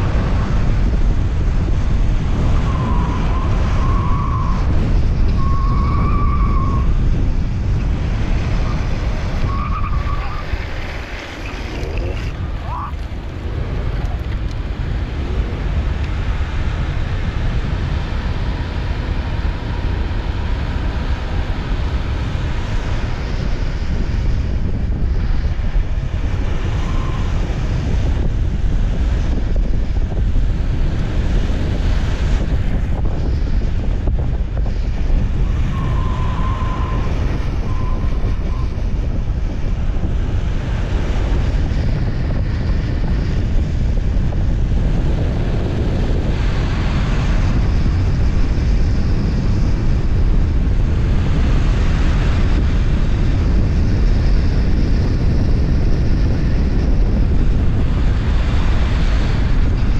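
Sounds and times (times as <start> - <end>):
low road rumble: 0.0 - 59.9
wind rushing over microphone: 0.0 - 59.9.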